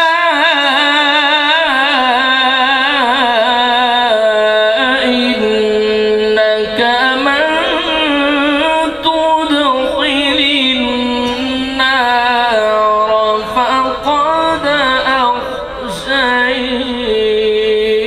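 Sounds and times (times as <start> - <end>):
man chanting melodic recitation: 0.0 - 18.0.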